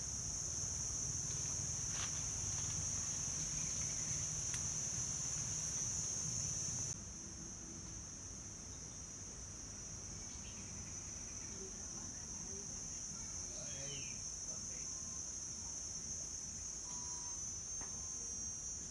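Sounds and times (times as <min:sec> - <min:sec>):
insects chirring: 0:00.0 - 0:18.9.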